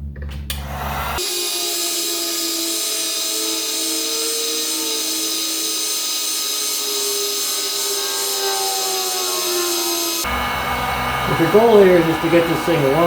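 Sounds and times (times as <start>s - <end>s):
heat gun motor whine: 0.5s - 13.0s.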